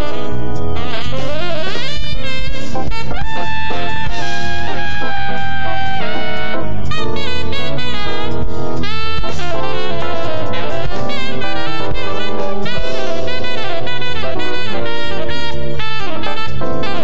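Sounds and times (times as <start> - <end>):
bass: 0.0 - 17.0
drum kit: 0.0 - 17.0
saxophone solo: 0.0 - 17.0.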